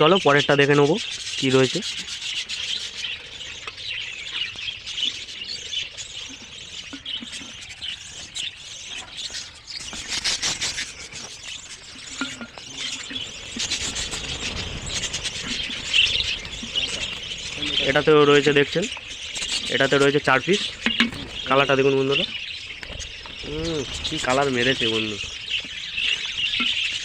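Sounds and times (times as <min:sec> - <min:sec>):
budgerigars chirping and chattering: 0:00.0 - 0:27.0.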